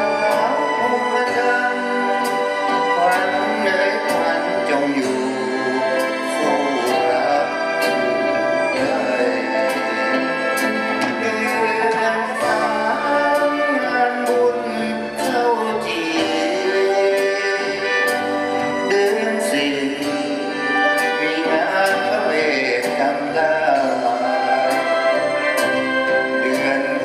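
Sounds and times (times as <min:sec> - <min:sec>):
big band playing: 0:00.0 - 0:27.0
man singing: 0:00.0 - 0:27.0.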